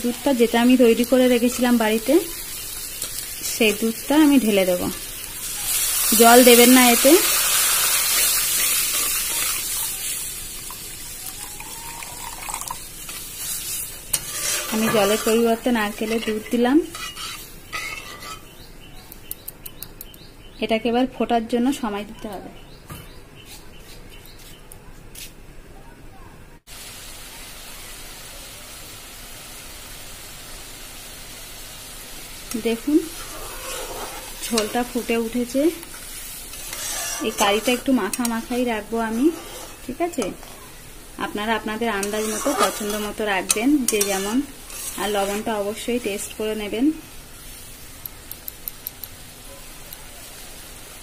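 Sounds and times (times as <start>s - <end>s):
oil sizzling: 0.0s - 18.8s, 26.7s - 51.0s.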